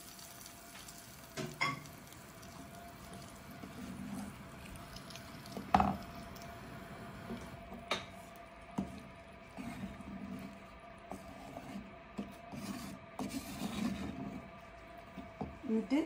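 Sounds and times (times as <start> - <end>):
spoon stirring thick curry: 1.9 - 15.4.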